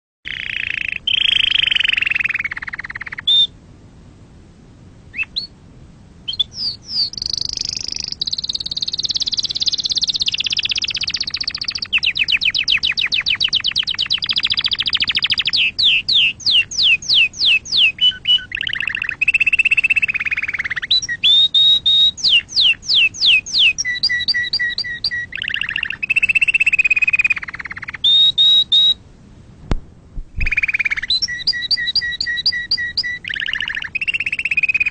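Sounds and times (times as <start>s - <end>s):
canary singing trills: 0.3s - 3.6s, 5.1s - 5.6s, 6.2s - 29.0s, 30.4s - 34.9s.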